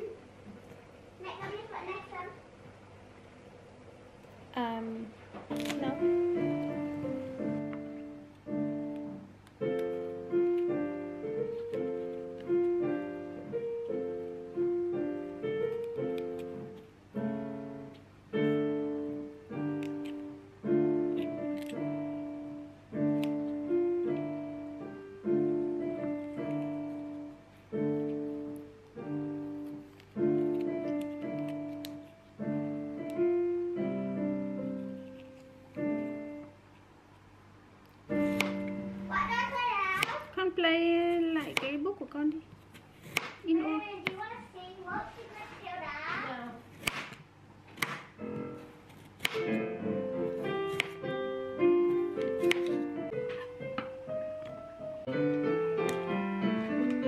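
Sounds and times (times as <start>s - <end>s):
gentle piano music: 4.6s - 42.1s, 47.8s - 57.0s.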